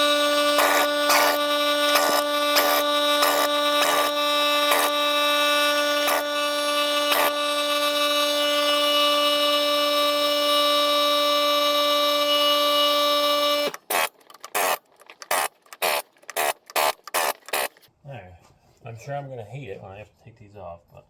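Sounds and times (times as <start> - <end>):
impact wrench short bursts: 0.0 - 17.9
impact wrench whining: 0.0 - 17.9.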